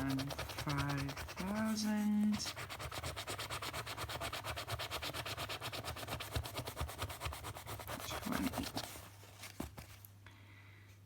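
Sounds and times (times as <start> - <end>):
scratch card scratching: 0.0 - 9.7.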